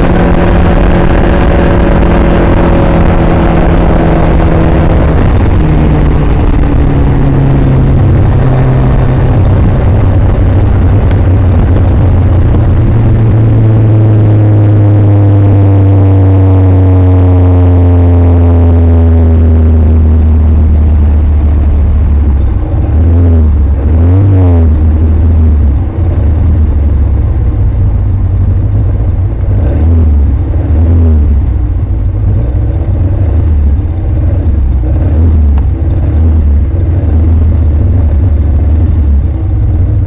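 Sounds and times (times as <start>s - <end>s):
car engine revving: 0.0s - 40.0s
heavy low rumble: 0.0s - 40.0s.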